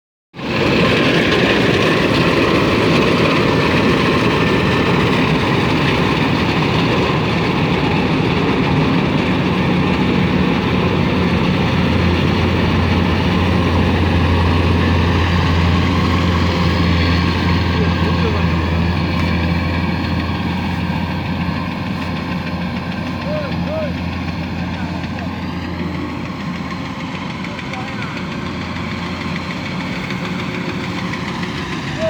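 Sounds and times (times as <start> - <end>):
harvester engine running: 0.4 - 32.0.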